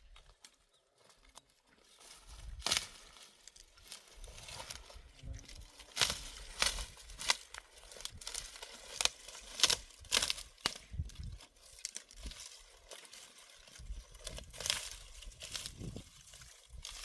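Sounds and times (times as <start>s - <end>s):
dry plant material rustling: 0.0s - 17.0s.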